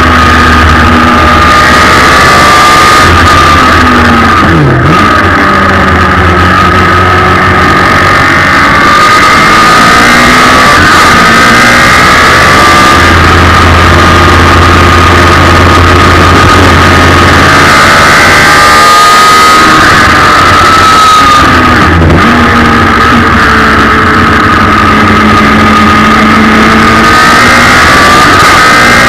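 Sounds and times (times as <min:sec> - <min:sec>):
race car engine at high revs: 0:00.0 - 0:29.0.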